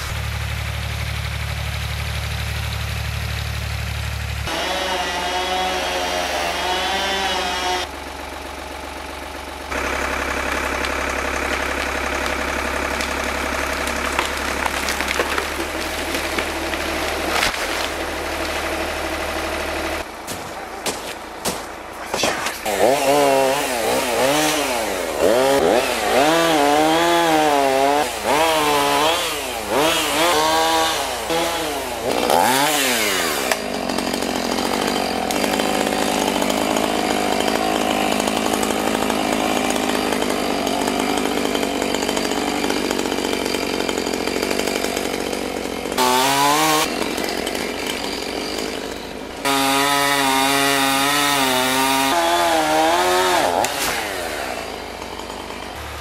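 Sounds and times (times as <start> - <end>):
chainsaw revving: 4.4 - 8.0, 9.7 - 56.0.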